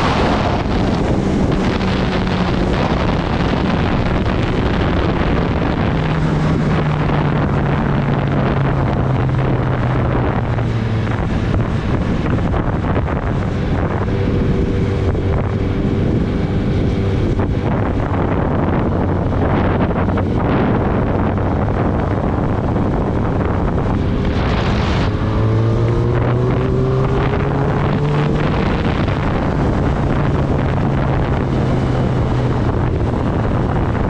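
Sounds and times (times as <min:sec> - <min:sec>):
motorcycle engine running: 0:00.0 - 0:34.0
wind noise on microphone: 0:00.0 - 0:34.0.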